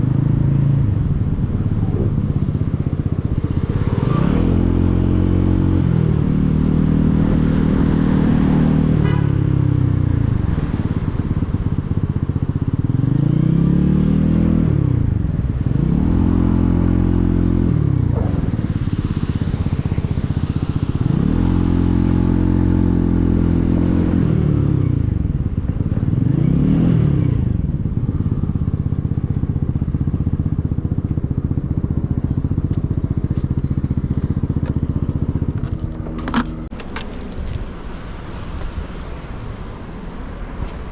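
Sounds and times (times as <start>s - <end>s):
motorcycle engine accelerating: 0.0s - 38.6s.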